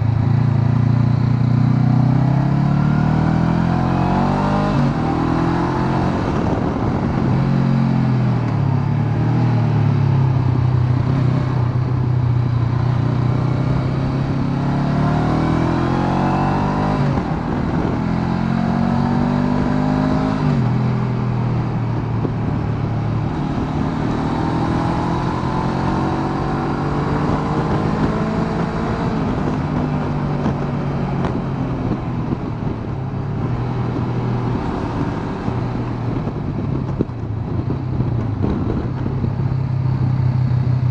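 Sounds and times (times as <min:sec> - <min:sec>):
motorcycle engine under way: 0:00.0 - 0:40.9.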